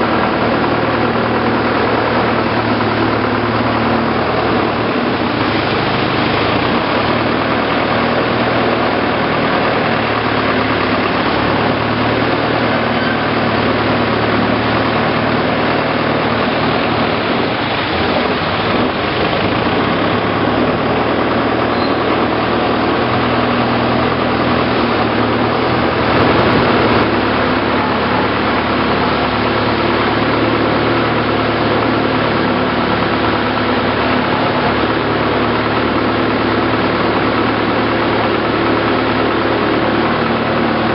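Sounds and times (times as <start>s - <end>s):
boat engine running: 0.0s - 40.9s
water and wind noise: 0.0s - 40.9s.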